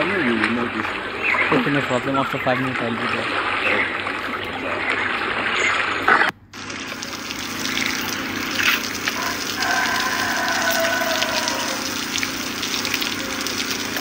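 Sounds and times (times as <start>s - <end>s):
running water rushing: 0.0s - 14.0s
water splashing in pool: 2.6s - 14.0s.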